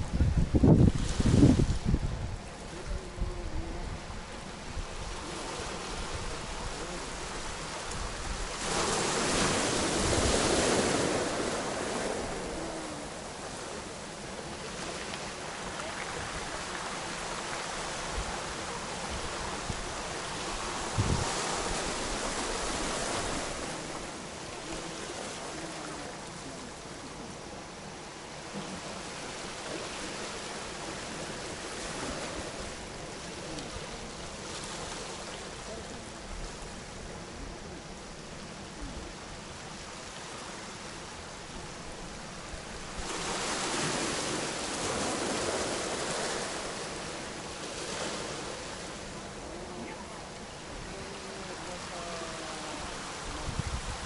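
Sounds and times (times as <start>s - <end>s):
waves washing onto cobble beach: 0.0s - 54.0s.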